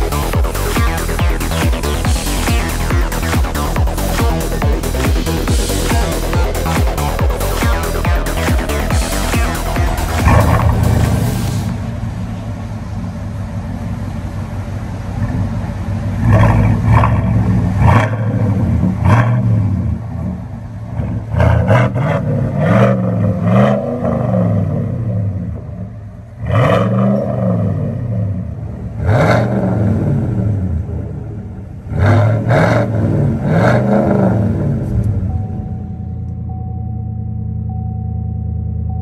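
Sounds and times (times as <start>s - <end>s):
truck engine revving: 0.0s - 36.6s.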